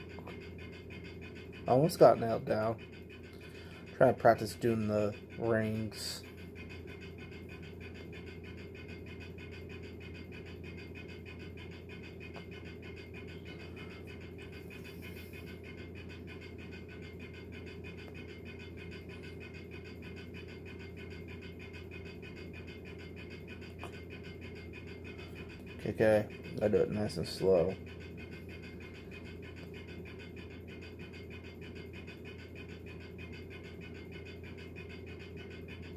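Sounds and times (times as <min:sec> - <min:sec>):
low hum with rapid flutter: 0:00.0 - 0:35.9.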